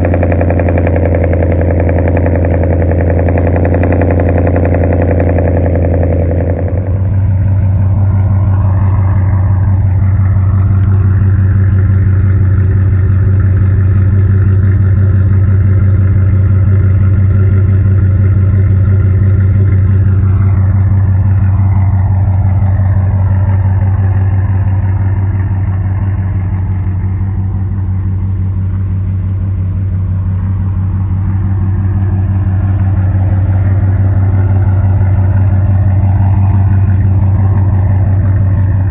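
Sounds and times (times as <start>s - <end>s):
truck engine low drone: 0.0s - 38.9s.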